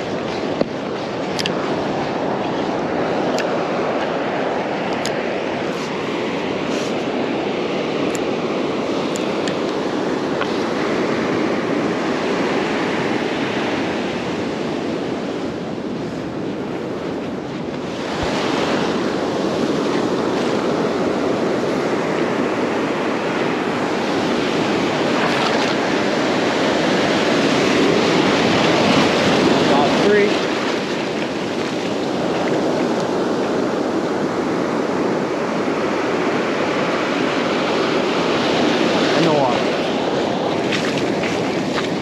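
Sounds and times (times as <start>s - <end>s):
ocean surf breaking: 0.0s - 42.0s.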